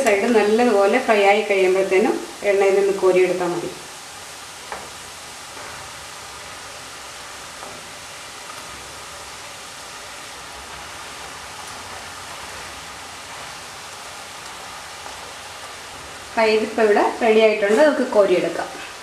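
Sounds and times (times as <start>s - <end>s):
sizzle of bubbling oil: 0.0s - 19.0s.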